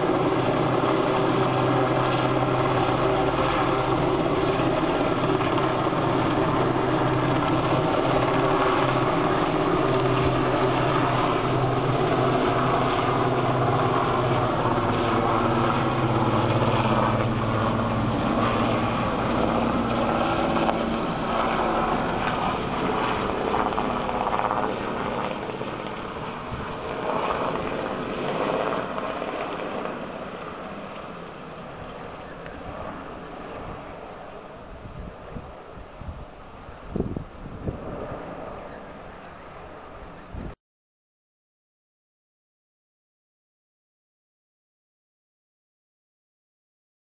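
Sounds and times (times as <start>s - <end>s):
helicopter rotors and engines: 0.0s - 40.6s.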